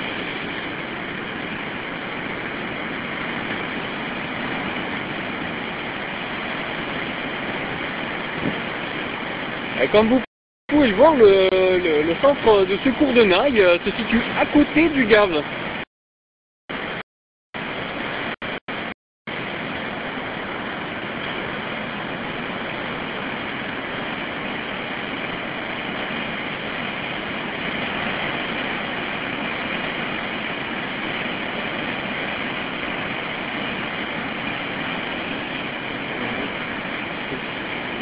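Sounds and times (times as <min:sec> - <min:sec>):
river rushing over rapids: 0:00.0 - 0:15.8, 0:17.6 - 0:38.0.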